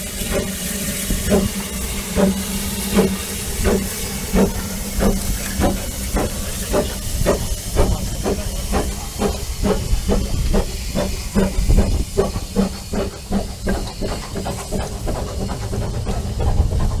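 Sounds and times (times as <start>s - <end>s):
steam hissing from cylinder drains: 0.0s - 17.0s
steam locomotive exhaust beats: 0.0s - 17.0s.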